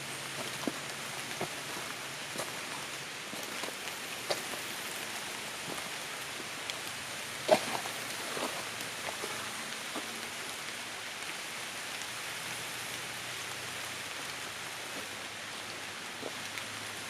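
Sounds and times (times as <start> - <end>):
light rain on leaves: 0.0 - 17.0.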